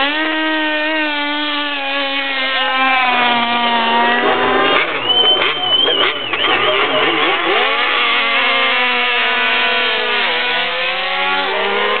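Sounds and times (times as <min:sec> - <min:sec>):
racing motorcycles passing by: 0:00.0 - 0:12.0.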